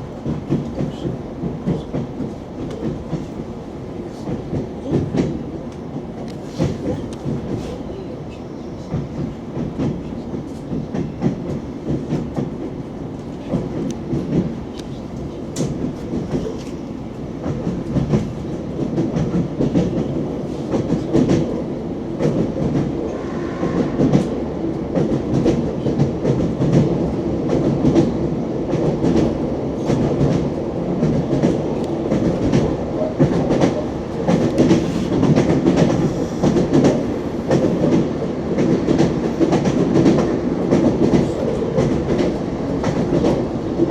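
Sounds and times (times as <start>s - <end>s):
train wheels clattering over rails: 0.1s - 43.9s.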